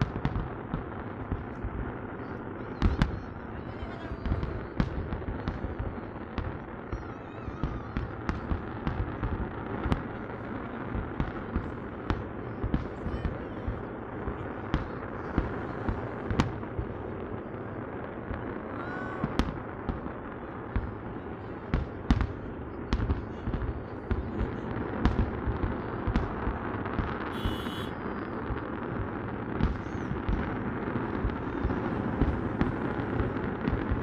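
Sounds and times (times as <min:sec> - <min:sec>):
fireworks rumble and crackle: 0:00.0 - 0:34.0
fireworks sharp bangs: 0:00.0 - 0:34.0.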